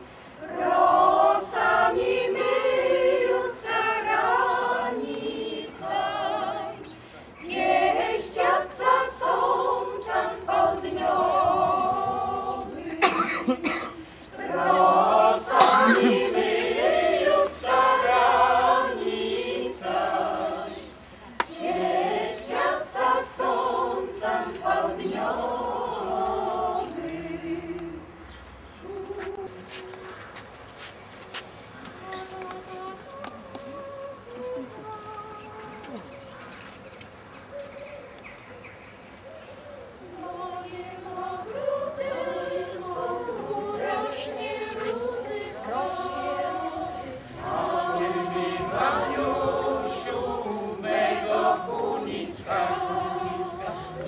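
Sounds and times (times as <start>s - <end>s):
mixed choir singing a cappella: 0.0s - 30.0s, 40.0s - 54.0s.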